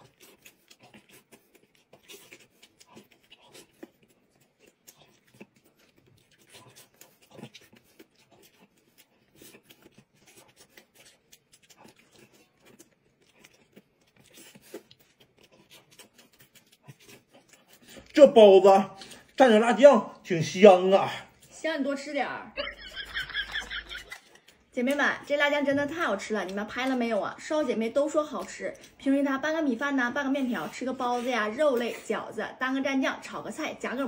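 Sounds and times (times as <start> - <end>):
soft chewing and lip-smacking: 0.0 - 34.0.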